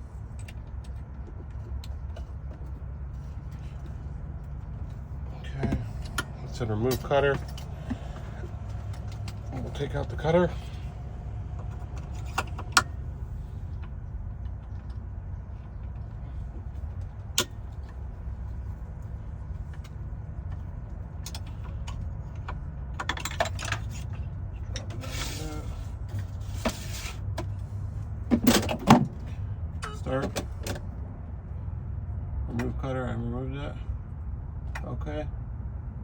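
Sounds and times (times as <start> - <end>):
rattling and scraping: 0.0 - 29.5.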